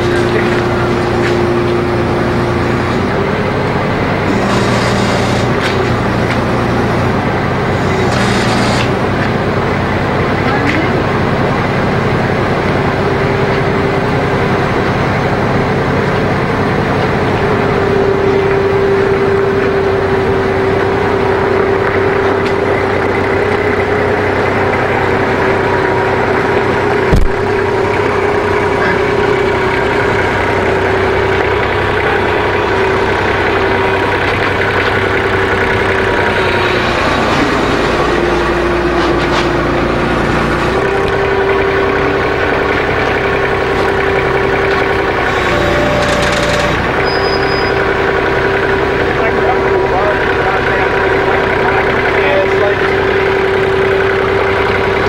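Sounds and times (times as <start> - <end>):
engine running with a whine: 0.0 - 55.0.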